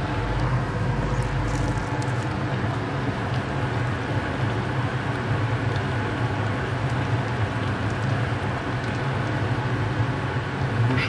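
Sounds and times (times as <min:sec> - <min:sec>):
low hum and hiss: 0:00.0 - 0:11.0
sauce simmering in a frying pan: 0:00.0 - 0:11.0.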